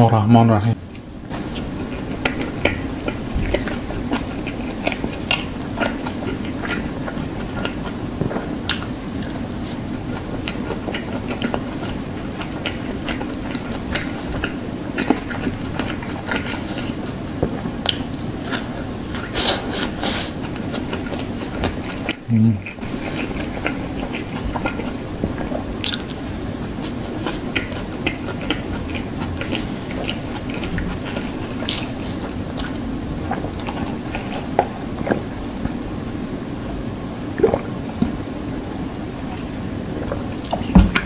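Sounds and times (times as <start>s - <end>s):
wet chewing: 0.9s - 36.0s.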